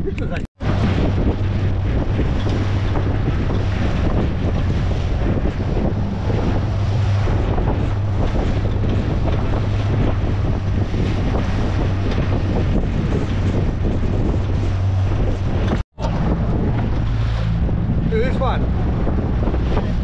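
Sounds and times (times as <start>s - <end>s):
wind buffeting microphone: 0.0s - 20.0s
boat engine humming: 0.2s - 20.0s
water rushing: 0.6s - 20.0s.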